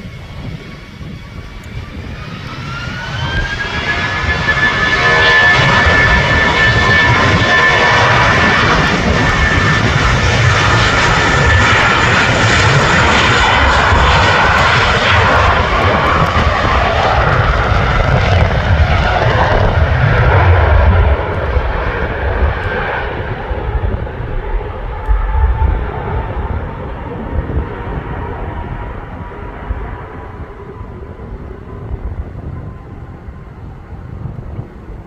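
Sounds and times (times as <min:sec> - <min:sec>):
high engine whine: 0:00.0 - 0:35.0
jet engines roaring: 0:00.0 - 0:35.0.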